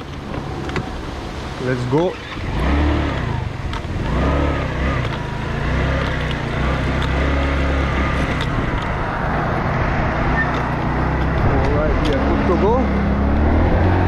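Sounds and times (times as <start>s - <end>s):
wind and road noise: 0.0s - 14.0s
motorcycle engine accelerating: 1.6s - 14.0s.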